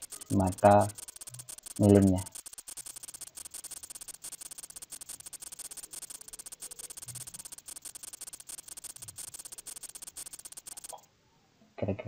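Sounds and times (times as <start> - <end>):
fast stream of fine clicks: 0.0 - 11.1.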